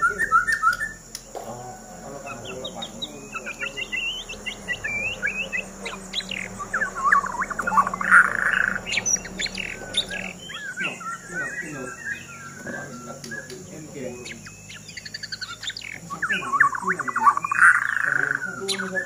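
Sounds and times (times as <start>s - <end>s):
birds singing whistled notes: 0.0s - 19.0s.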